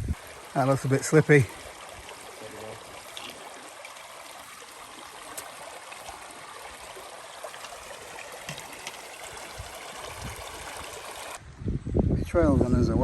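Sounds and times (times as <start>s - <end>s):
brook running over stones: 0.0s - 11.4s.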